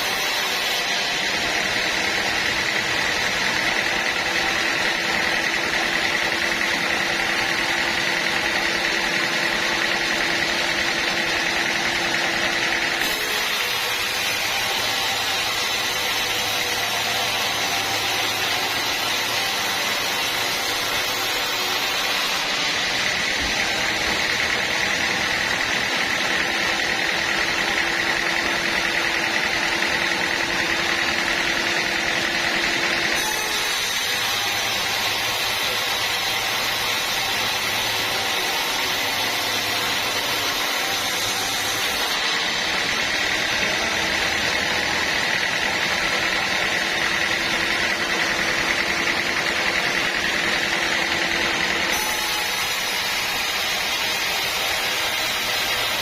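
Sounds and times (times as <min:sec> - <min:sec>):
band saw whining: 0:00.0 - 0:56.0.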